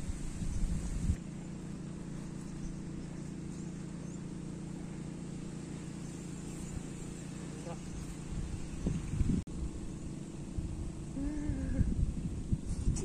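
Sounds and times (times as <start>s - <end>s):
motor droning: 0.0s - 12.8s.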